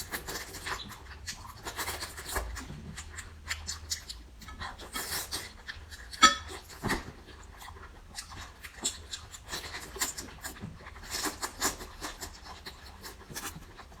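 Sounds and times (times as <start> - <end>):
person chewing and crunching: 0.0 - 14.0.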